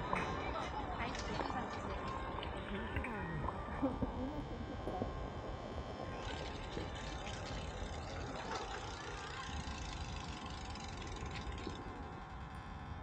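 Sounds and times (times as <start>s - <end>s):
faint distant voices: 0.0s - 11.9s.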